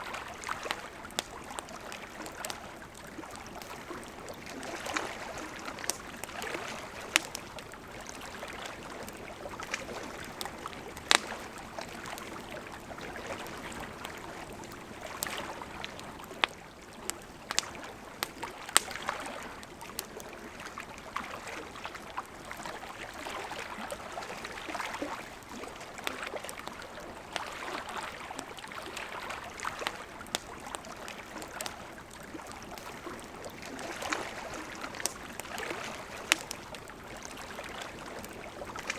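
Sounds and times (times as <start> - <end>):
campfire crackling and popping: 0.0 - 38.9
river flowing: 0.0 - 38.9.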